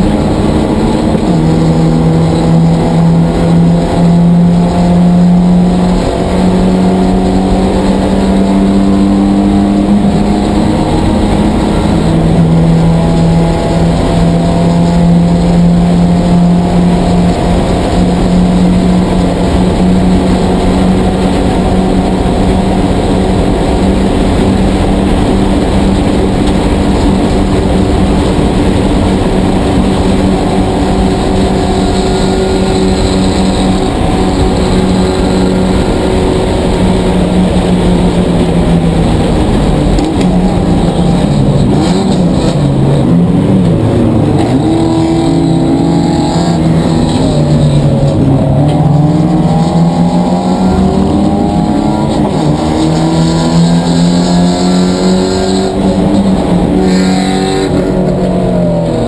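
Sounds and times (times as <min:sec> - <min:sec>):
race car engine at high revs: 0:00.0 - 0:59.0
wind and road noise: 0:00.0 - 0:59.0.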